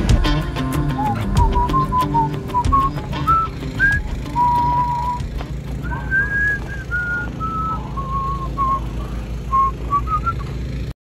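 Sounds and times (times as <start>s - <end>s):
man whistling a tune: 0.7s - 8.9s, 9.5s - 10.6s.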